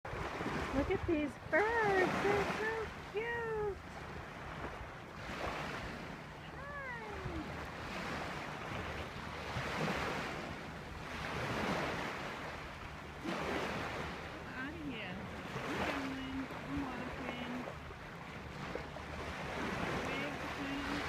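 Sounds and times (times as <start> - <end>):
beach surf washing in: 0.1 - 17.7, 18.6 - 21.0.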